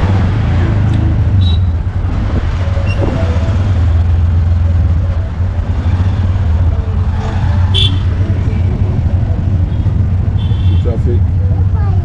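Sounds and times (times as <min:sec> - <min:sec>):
road and traffic noise: 0:00.0 - 0:12.0
small engine rumbling: 0:00.0 - 0:12.0.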